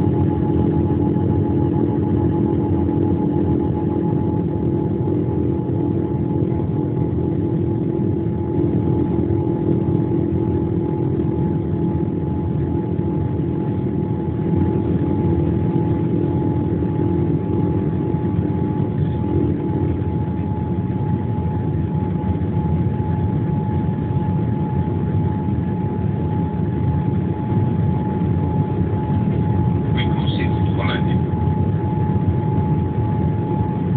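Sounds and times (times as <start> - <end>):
airliner engine rumble: 0.0 - 33.9
constant whine: 0.0 - 33.9
low hum: 0.0 - 33.9.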